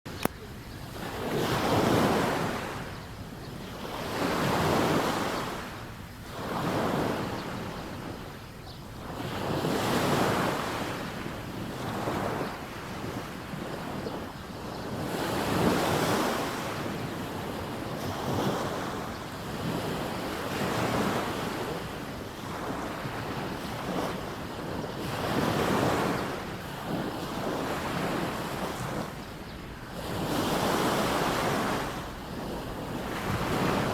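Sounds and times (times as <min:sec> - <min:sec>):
waves washing onto beach: 0:03.8 - 0:33.9.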